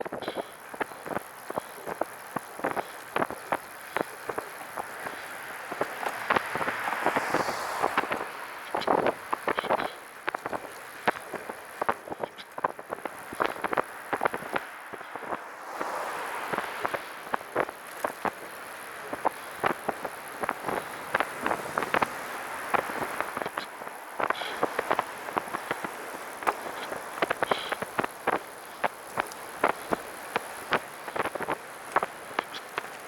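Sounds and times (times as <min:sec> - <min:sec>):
rattling clicks from a trike: 0:00.0 - 0:15.4, 0:16.3 - 0:33.0
wheels rolling: 0:00.0 - 0:33.0
wind noise: 0:00.0 - 0:33.0.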